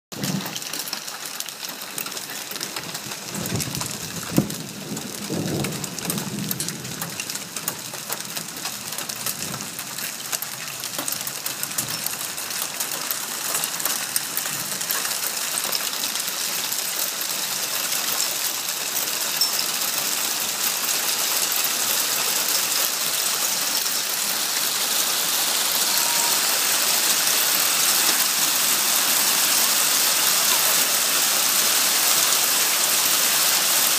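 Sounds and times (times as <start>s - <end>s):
hail and rain pelting cars: 0.1s - 33.9s.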